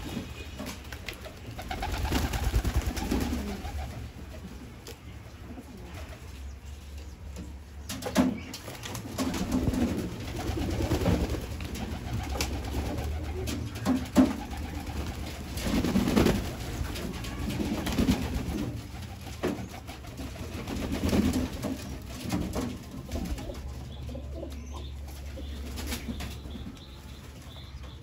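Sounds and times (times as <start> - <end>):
pigeons cooing: 0.0 - 4.8, 8.9 - 28.0.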